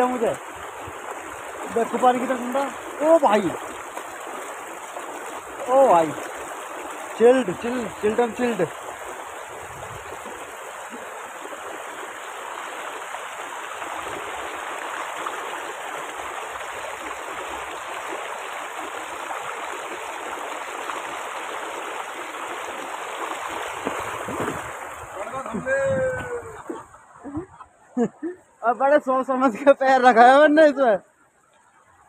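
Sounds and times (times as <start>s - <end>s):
river water rushing over stones: 0.0s - 26.9s.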